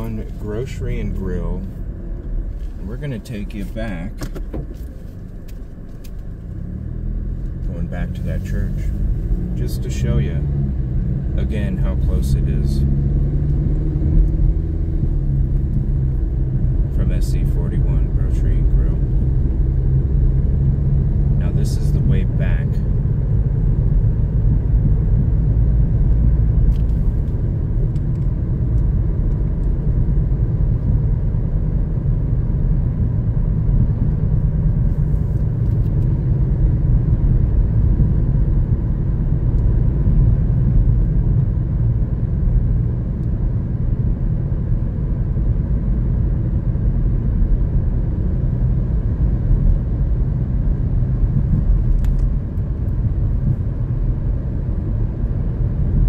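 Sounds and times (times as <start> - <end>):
car driving on paved road: 0.0 - 56.0.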